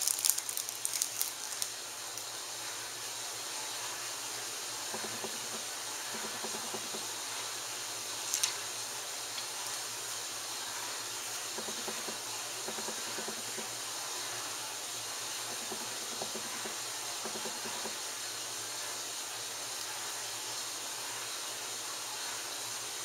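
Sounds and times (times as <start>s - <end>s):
background hiss: 0.0s - 23.0s.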